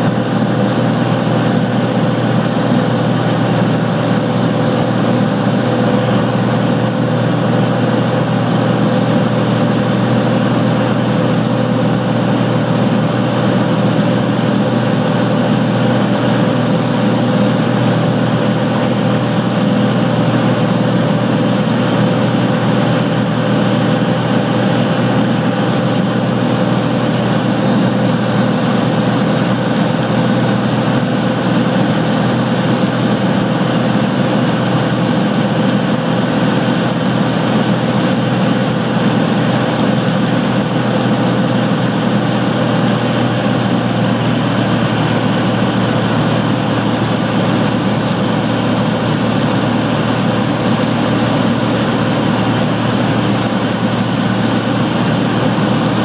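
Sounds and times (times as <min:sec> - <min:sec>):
airplane engine and propeller drone: 0:00.0 - 0:56.0.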